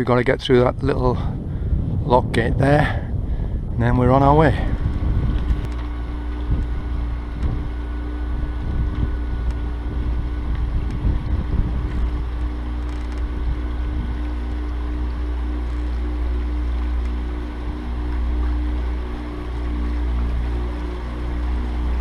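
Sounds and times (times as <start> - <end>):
boat motor humming: 0.0 - 22.0
wind rumbling on microphone: 0.0 - 22.0.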